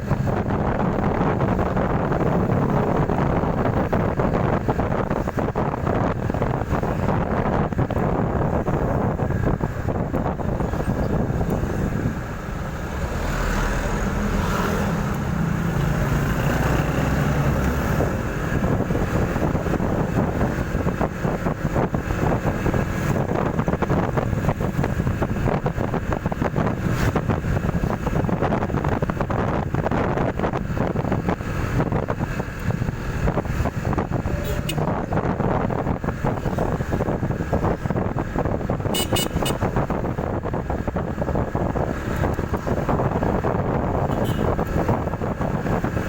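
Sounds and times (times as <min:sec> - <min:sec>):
motorcycle humming on road: 0:00.0 - 0:46.0
wind buffeting microphone: 0:00.0 - 0:46.0.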